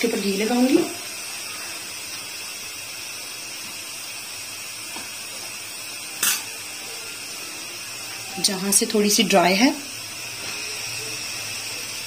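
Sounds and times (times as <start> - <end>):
flatbread sizzling in a pan: 0.0 - 12.0.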